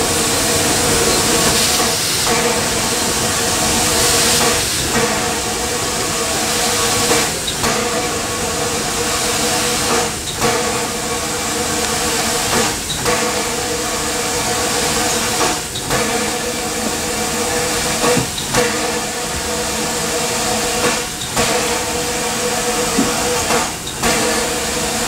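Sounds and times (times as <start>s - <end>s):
steam hissing: 0.0s - 25.0s
steam locomotive moving slowly: 0.0s - 25.0s.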